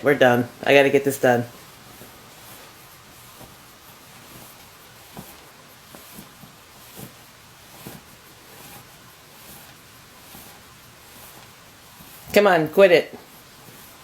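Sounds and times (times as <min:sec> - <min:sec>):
bedding rustling: 0:00.0 - 0:14.0
faint steady hiss: 0:00.0 - 0:14.0.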